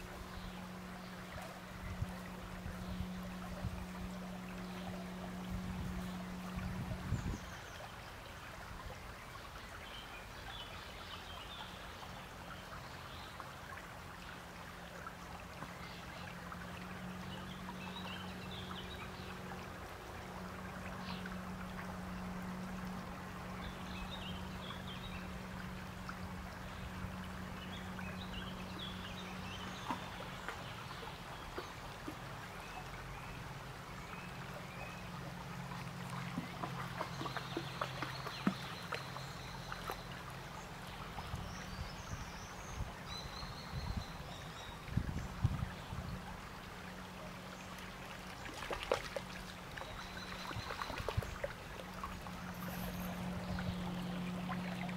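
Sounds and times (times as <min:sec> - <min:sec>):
brook flowing and trickling: 0:00.0 - 0:54.9.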